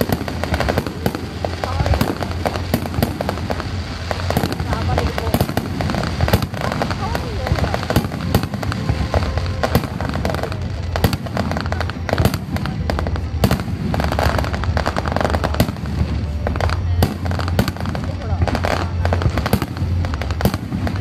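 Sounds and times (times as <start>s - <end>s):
fireworks bursting and crackling: 0.0s - 21.0s
low rumble: 0.0s - 21.0s
music: 0.0s - 21.0s.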